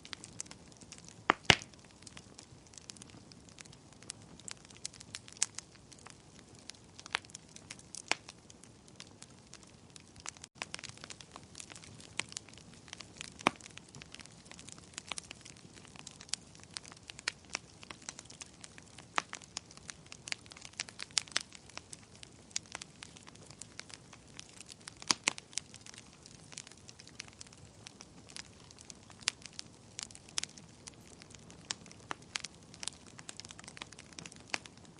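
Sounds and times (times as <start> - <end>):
fire pops and snaps: 0.0 - 34.9
wood fire crackling: 0.0 - 34.9.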